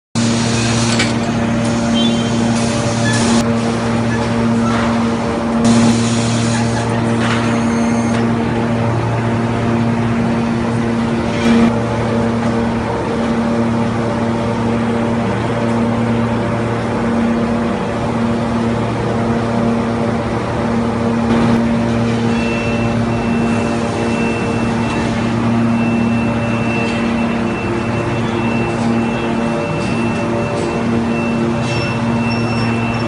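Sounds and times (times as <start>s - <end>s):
industrial machinery humming: 0.2s - 33.0s.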